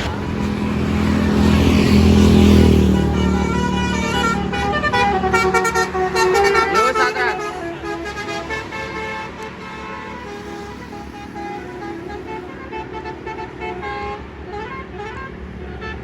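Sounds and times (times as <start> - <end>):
low rumble of traffic: 0.0 - 16.0
multi-tone air horn tune: 0.0 - 16.0.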